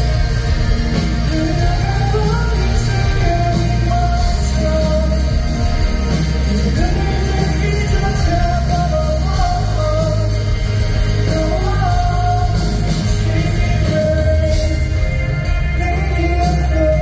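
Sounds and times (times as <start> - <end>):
electric bass: 0.0 - 17.0
live rock band: 0.0 - 17.0
person singing: 0.0 - 17.0.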